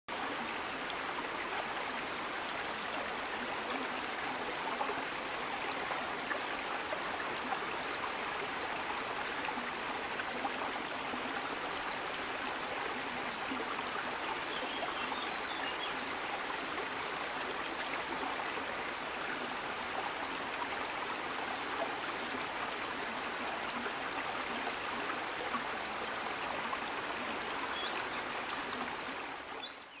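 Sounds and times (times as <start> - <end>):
stream water running: 0.1 - 30.0.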